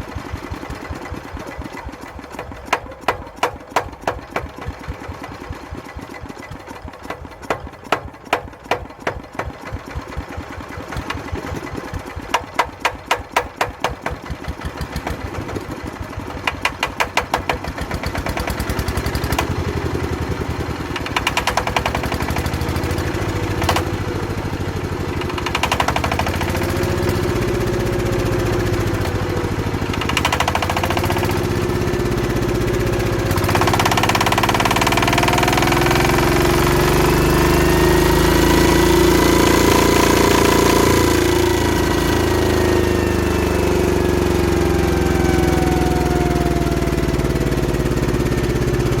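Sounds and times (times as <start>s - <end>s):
diesel tiller engine chugging: 0.0s - 49.0s.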